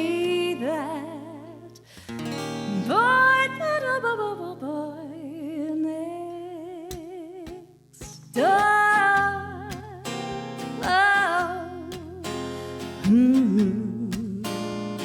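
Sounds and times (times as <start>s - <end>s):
acoustic guitar: 0.0s - 15.0s
woman singing: 0.0s - 15.0s.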